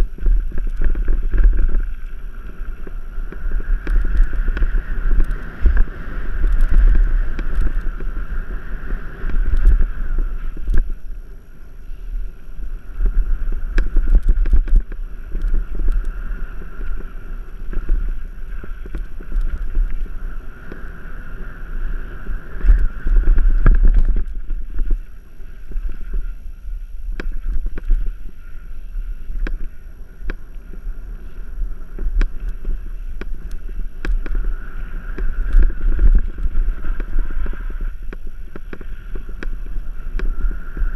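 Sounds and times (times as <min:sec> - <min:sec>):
bike clicks and rattles: 0:00.0 - 0:40.9
wind buffeting microphone: 0:00.0 - 0:40.9.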